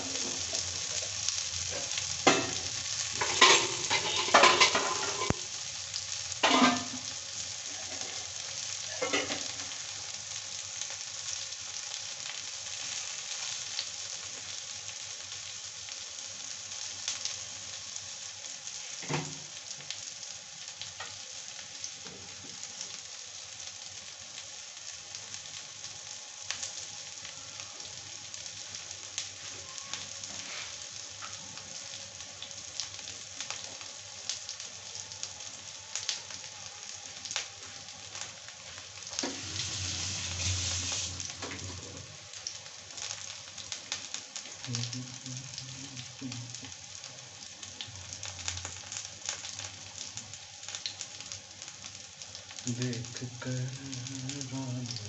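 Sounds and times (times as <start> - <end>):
oil crackling and popping: 0.0 - 55.0
vegetables sizzling in oil: 0.0 - 55.0.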